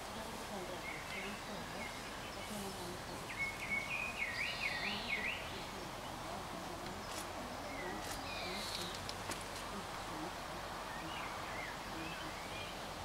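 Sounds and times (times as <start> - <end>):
outdoor background hiss: 0.0 - 13.0
bird singing warbled phrase: 0.6 - 9.0, 10.1 - 13.0.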